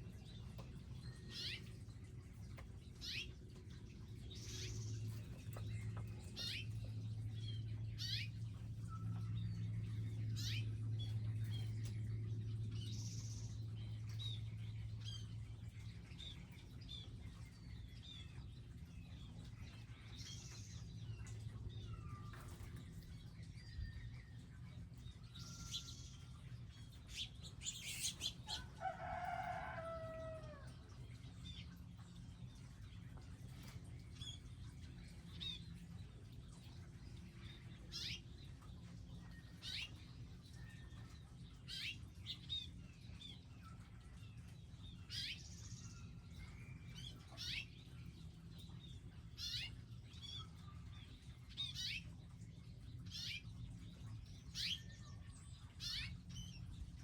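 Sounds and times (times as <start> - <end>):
birds chirping: 0.0 - 57.0
low background hum: 0.0 - 57.0.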